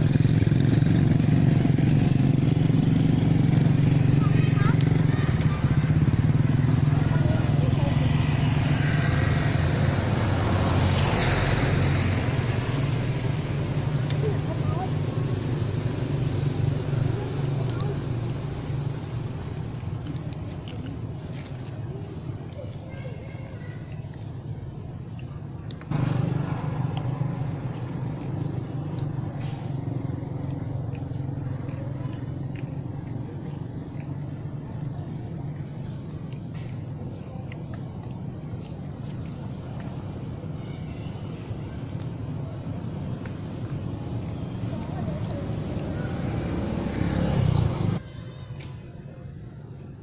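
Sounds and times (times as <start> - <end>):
motorcycle engine idling: 0.0 - 48.1.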